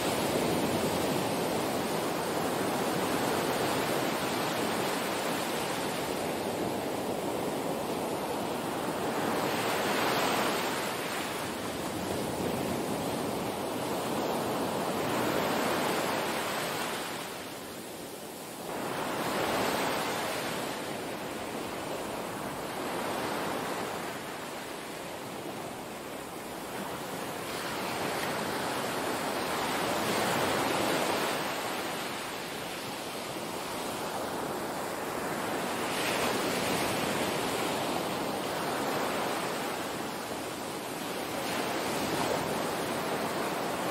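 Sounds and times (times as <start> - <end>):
small waves washing on beach: 0.0 - 43.9.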